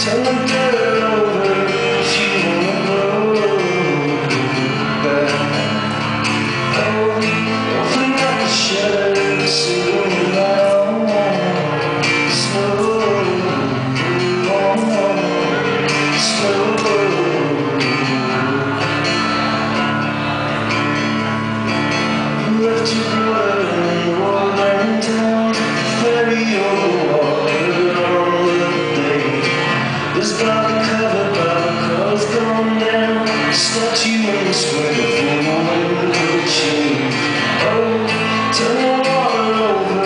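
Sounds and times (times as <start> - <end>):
man singing: 0.0 - 20.4, 22.0 - 40.0
acoustic guitar: 0.0 - 40.0.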